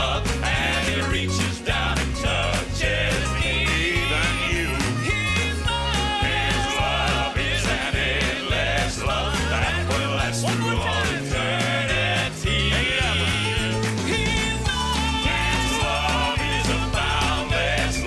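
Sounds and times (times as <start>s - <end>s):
gospel quartet singing with band: 0.0s - 18.0s.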